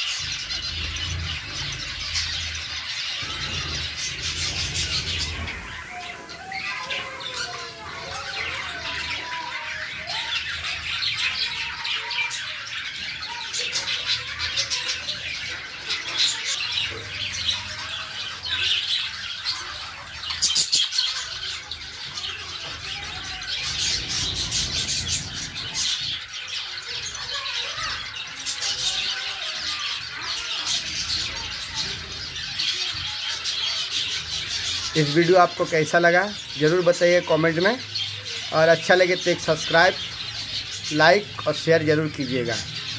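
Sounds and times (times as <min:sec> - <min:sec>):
birds chattering and chirping: 0:00.0 - 0:42.9.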